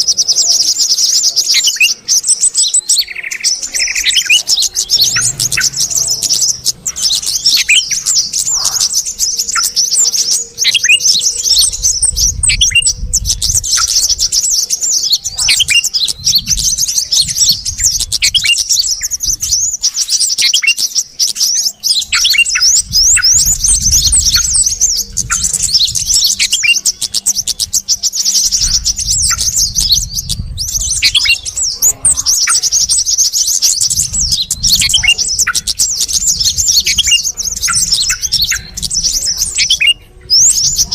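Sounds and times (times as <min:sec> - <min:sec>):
bulbuls chirping and twittering: 0:00.0 - 0:40.9.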